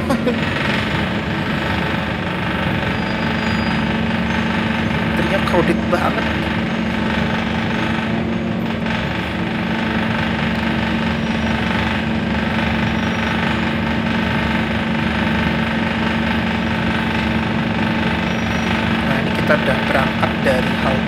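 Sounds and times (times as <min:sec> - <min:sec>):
bus engine drone: 0:00.0 - 0:21.0
road noise: 0:00.0 - 0:21.0.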